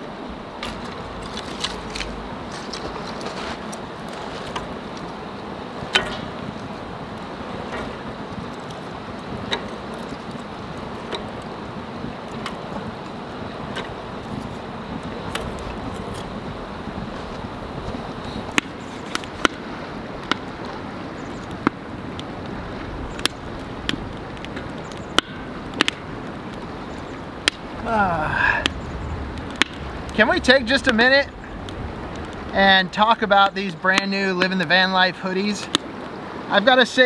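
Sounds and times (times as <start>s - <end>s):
kindling crackling in fire: 0.0s - 37.0s
sharp pops of fire: 0.6s - 34.6s.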